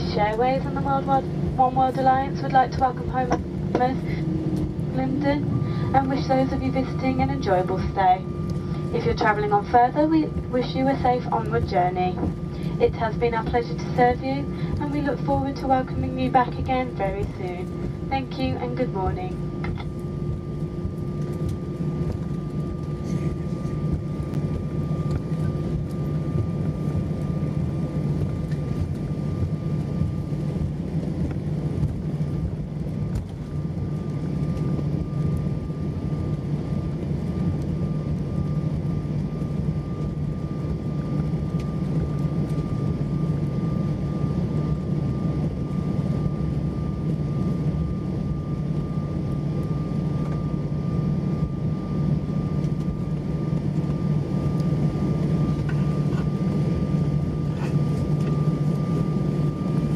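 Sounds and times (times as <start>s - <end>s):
jet engines idling: 0.0s - 59.9s
thin steady whine: 0.0s - 59.9s.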